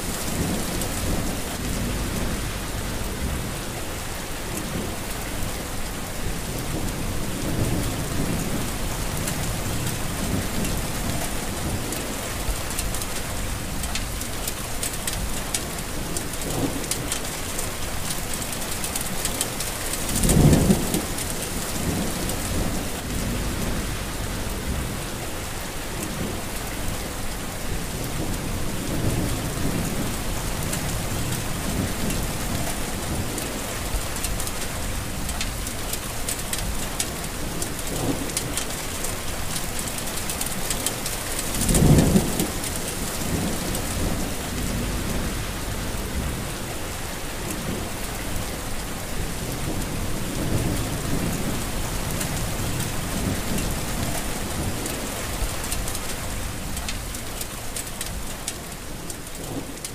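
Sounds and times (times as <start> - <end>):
low thunder rumbling: 0.0 - 14.4, 19.3 - 57.2
heavy rain falling: 0.0 - 59.9.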